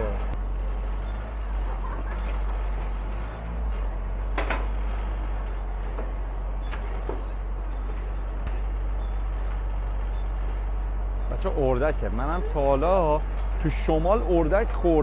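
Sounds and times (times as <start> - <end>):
engine running nearby: 0.0 - 15.0
street traffic rumble: 0.0 - 15.0.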